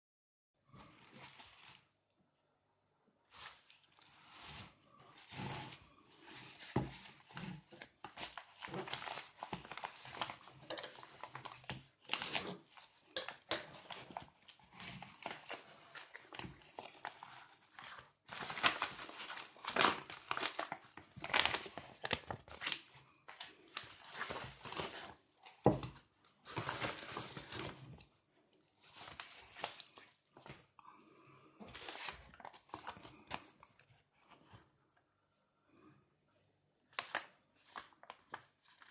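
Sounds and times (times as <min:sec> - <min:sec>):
packaging crinkling and rustling: 0:00.8 - 0:02.0, 0:03.3 - 0:30.7, 0:31.6 - 0:34.7, 0:37.0 - 0:38.9.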